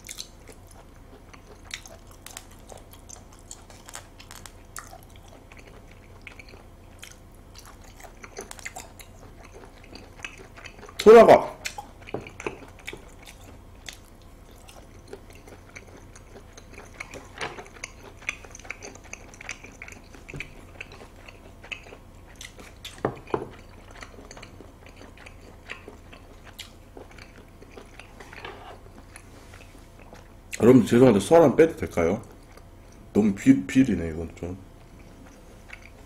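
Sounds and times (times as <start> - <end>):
person chewing food: 0.0 - 30.6, 32.2 - 33.1, 34.8 - 36.0.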